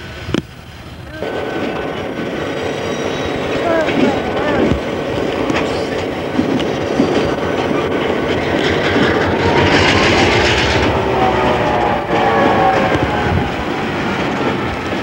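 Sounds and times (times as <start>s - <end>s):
diesel locomotive engine running: 0.0s - 15.0s
wheels on rails: 0.0s - 15.0s.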